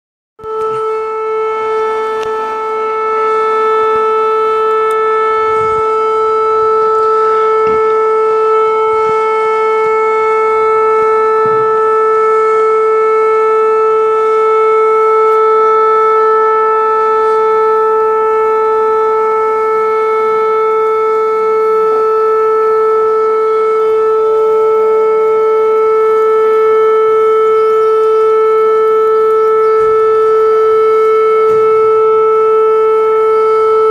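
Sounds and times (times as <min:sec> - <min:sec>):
fire alarm siren steady tone: 0:00.4 - 0:33.9.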